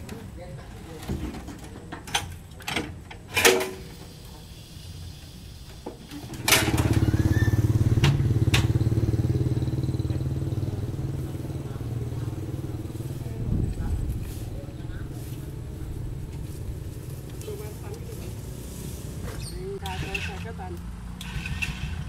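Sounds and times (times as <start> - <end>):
engine running steadily: 3.6 - 22.0.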